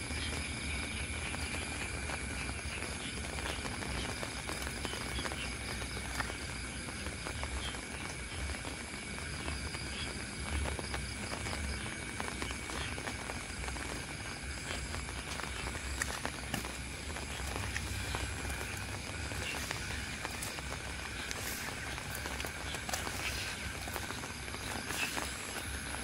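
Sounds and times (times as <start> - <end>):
insect trill: 0.0 - 26.0
steady rain: 0.0 - 26.0.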